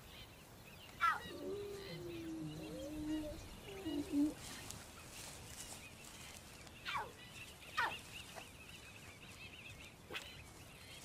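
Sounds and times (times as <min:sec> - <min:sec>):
bird warbling song: 0:00.0 - 0:11.0.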